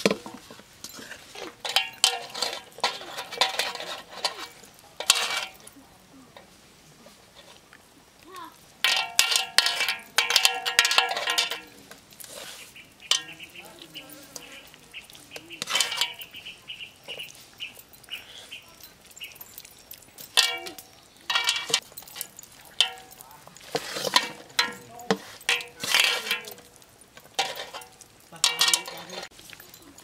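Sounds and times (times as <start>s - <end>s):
metallic clinks of basin and bangles: 0.8s - 5.8s, 8.9s - 30.0s.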